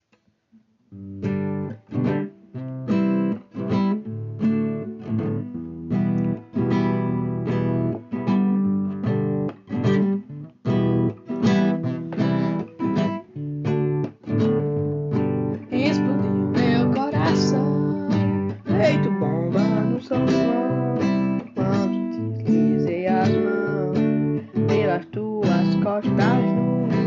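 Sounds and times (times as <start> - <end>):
acoustic guitar strumming chords: 1.0 - 27.0.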